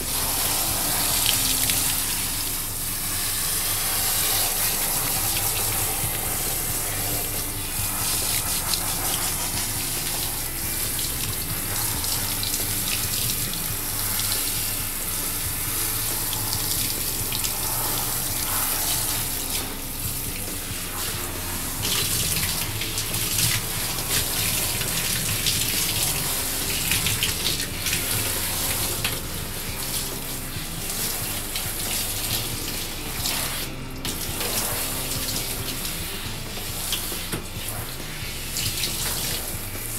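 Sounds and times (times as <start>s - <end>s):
shower spray splashing: 0.0s - 39.9s.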